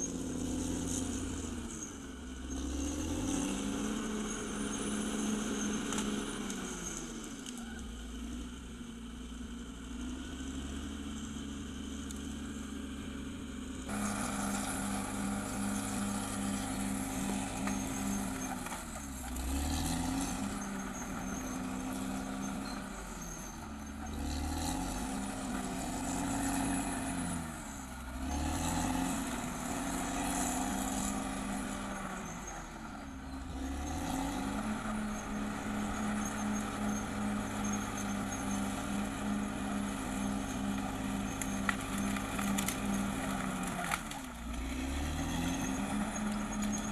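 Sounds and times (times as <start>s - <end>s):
bulldozer diesel engine working: 0.0s - 46.9s.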